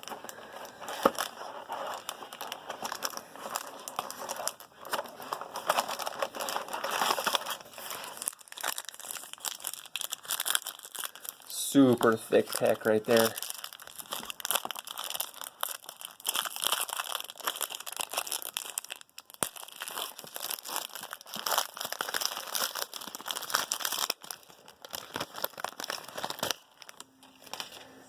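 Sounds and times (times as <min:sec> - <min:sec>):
wrapper tearing and crinkling: 0:00.0 - 0:27.8.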